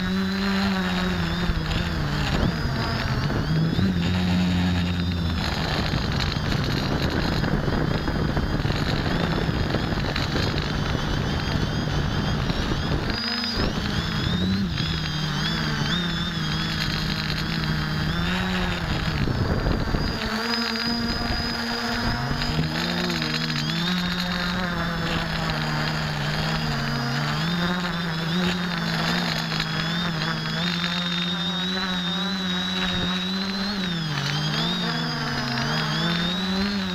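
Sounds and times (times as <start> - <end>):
rushing wind noise: 0.0 - 30.8
drone motors and propellers buzzing: 0.0 - 36.9.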